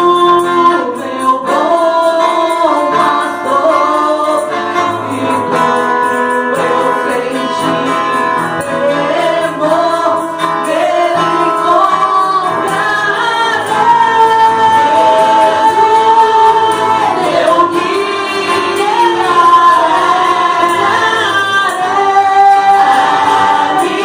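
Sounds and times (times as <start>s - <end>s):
group singing gospel song: 0.0s - 24.0s
musical accompaniment: 0.0s - 24.0s.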